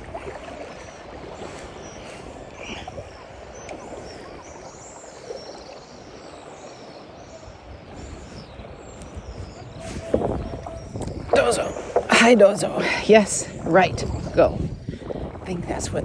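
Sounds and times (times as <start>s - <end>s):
sea water lapping around kayak: 0.0s - 16.0s.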